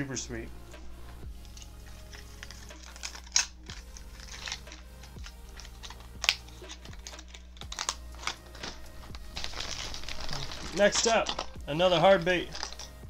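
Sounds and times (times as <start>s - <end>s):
quiet background music: 0.0s - 13.0s
fishing lures rattling: 0.6s - 13.0s
plastic packaging clicks: 1.5s - 11.6s, 12.2s - 13.0s.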